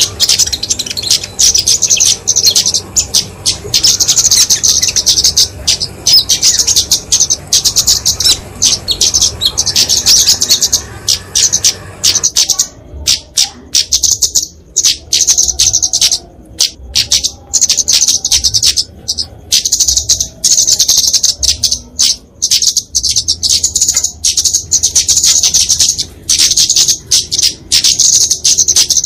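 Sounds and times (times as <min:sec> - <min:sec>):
bird ticking trills: 0:00.0 - 0:29.0.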